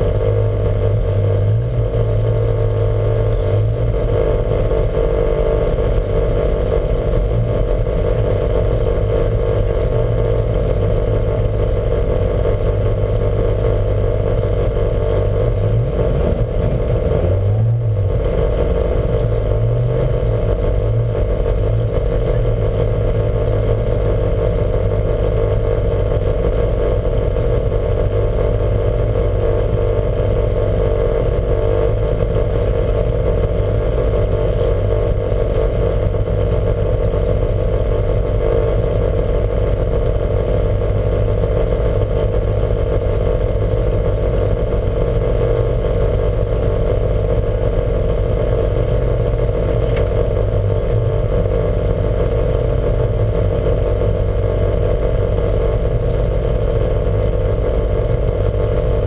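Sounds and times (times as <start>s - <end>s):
car engine running steadily: 0.0s - 59.0s.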